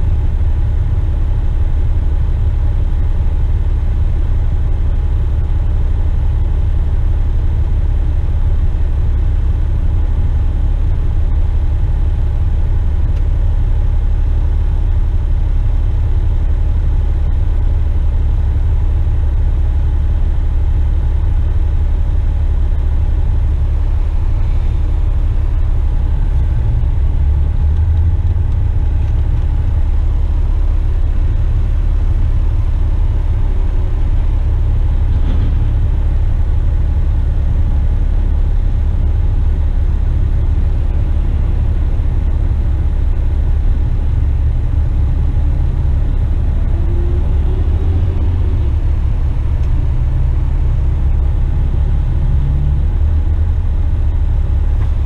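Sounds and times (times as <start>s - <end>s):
truck diesel engine rumbling: 0.0s - 55.0s.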